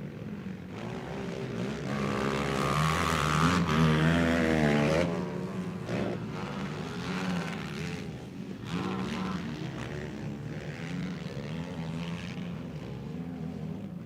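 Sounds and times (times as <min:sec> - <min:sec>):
quad bike engines revving: 0:00.0 - 0:14.0.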